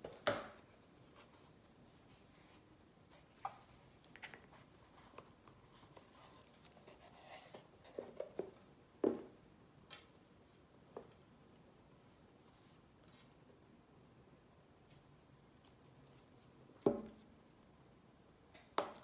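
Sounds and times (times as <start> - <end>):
soft rustling of packaging: 0.1 - 9.4, 10.0 - 13.6, 14.9 - 17.7.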